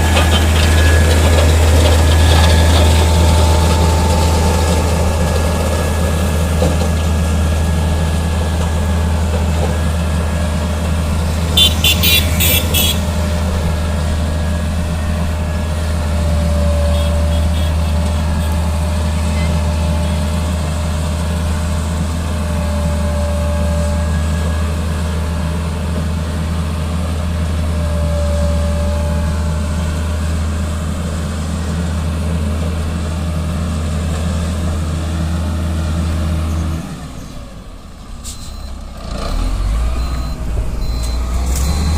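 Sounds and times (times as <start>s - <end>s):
heavy diesel engine droning: 0.0s - 41.9s.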